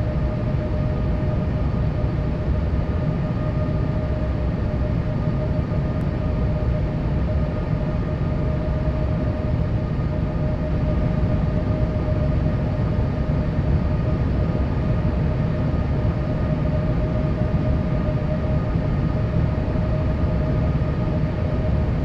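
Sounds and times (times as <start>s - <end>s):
aircraft cabin engine rumble: 0.0s - 22.0s
constant engine whine: 0.0s - 22.0s.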